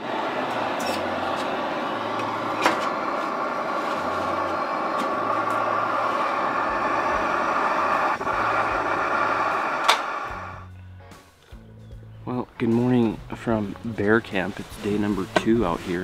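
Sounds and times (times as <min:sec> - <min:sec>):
gas burner hissing: 0:00.0 - 0:10.7, 0:12.9 - 0:16.0.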